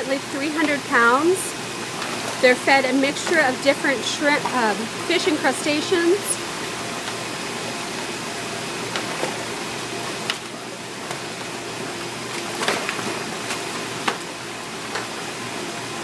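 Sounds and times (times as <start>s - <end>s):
turtle splashing: 0.0s - 15.2s
water rushing in tank: 0.0s - 16.0s.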